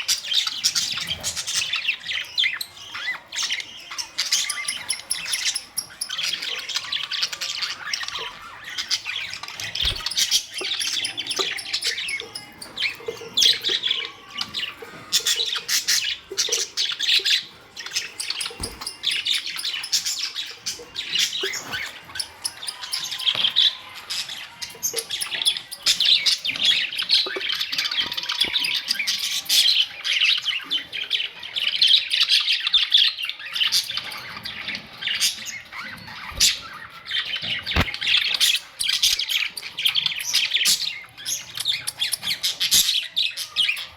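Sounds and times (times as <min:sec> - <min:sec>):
budgerigars chirping and squawking: 0:00.0 - 0:43.9.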